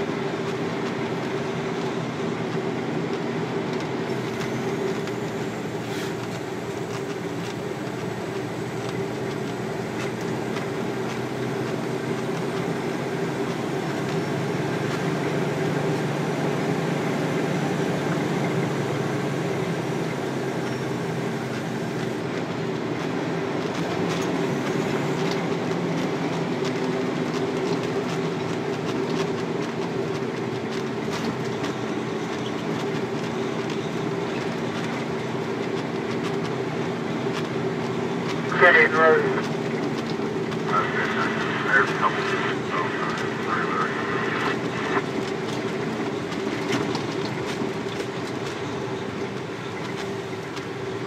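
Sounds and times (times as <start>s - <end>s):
road noise: 0.0s - 51.0s
truck engine drone: 0.0s - 51.0s.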